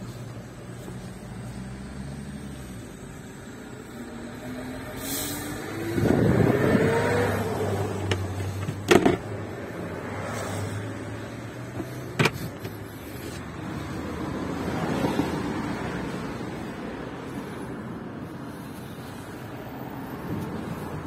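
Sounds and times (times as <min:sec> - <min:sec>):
vehicle noise: 0:00.0 - 0:21.0.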